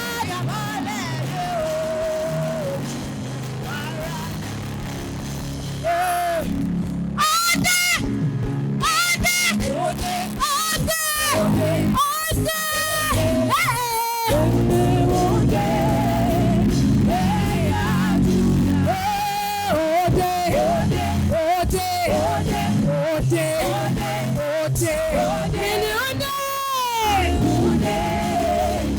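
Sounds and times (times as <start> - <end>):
band playing worship music: 0.0 - 28.9.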